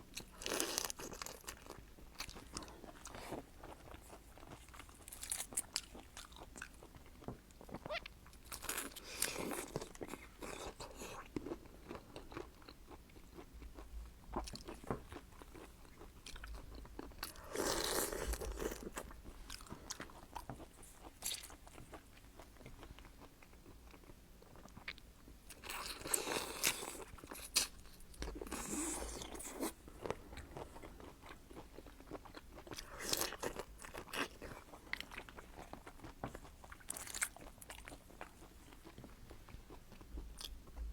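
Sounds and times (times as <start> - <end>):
crunching and chewing seafood: 0.0 - 40.9.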